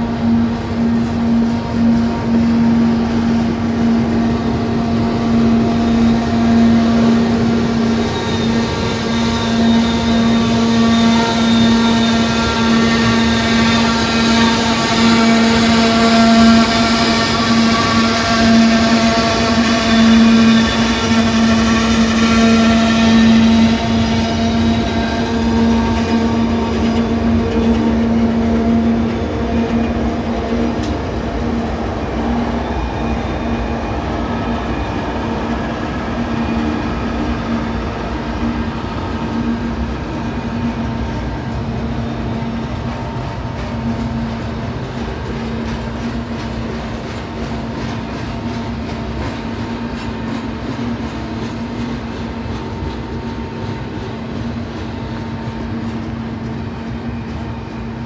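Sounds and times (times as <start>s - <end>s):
train wheels clattering over rails: 0.0s - 58.0s.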